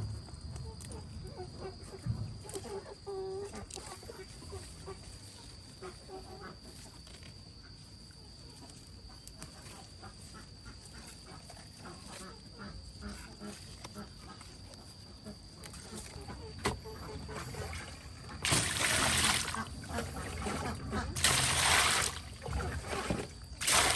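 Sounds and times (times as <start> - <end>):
high insect whine: 0.0 - 23.9.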